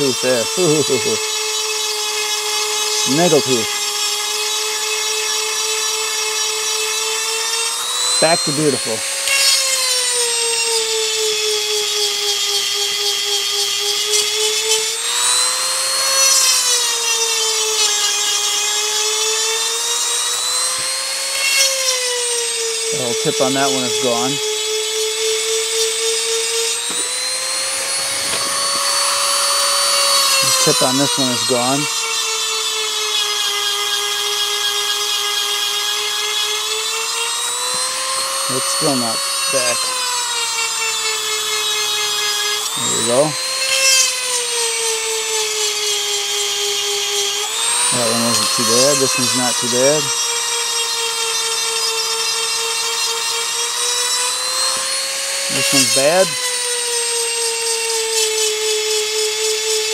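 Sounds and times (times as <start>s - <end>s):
rotary tool grinding metal: 0.0s - 59.9s.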